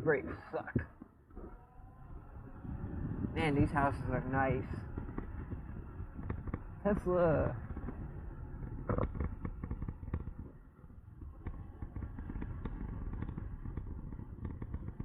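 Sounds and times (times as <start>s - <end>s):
wind buffeting microphone: 0.0s - 15.0s
sharp wind pops: 2.6s - 15.0s.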